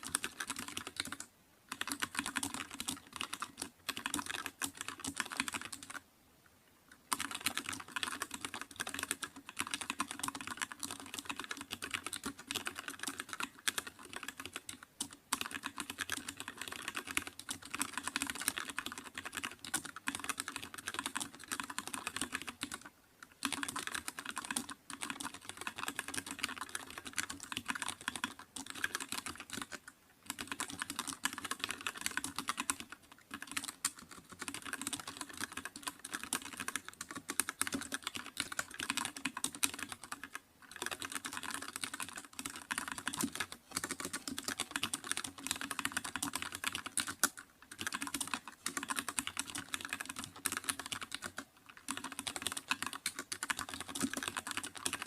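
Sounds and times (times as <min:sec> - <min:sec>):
fast typing on keyboard: 0:00.0 - 0:06.0, 0:07.1 - 0:55.0.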